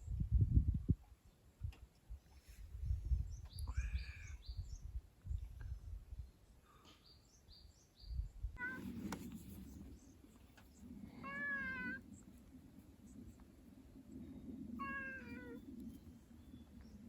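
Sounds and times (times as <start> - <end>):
small birds singing: 1.2 - 17.0.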